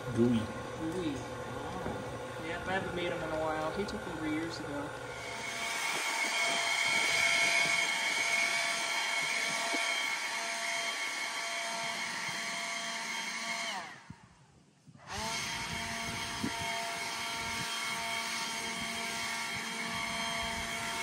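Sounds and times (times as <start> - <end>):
leaf blower whining: 0.0 - 21.0.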